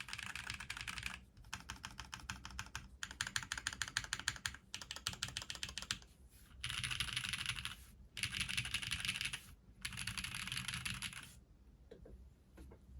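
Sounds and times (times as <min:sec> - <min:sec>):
mechanical keyboard typing: 0:00.0 - 0:06.0, 0:06.6 - 0:11.3.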